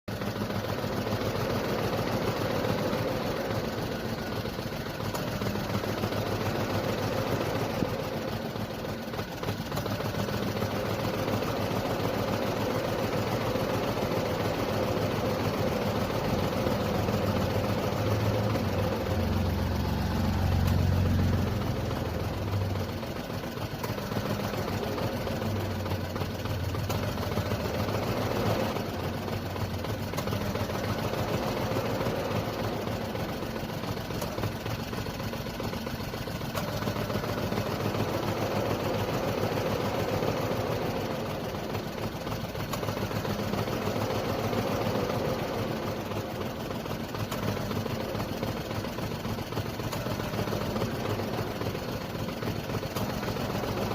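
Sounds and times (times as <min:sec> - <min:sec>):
car engine idling: 0:00.1 - 0:53.9.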